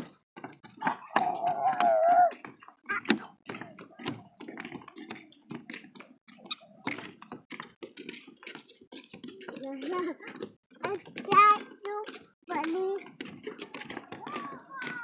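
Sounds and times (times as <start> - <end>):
footsteps on wooden boardwalk: 0.0 - 15.0.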